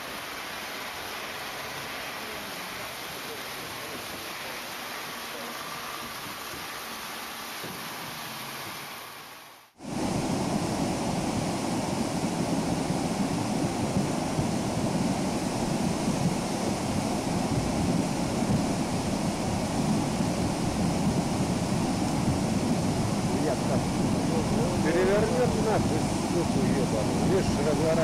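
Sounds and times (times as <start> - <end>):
muddy river water rushing: 0.0 - 28.0.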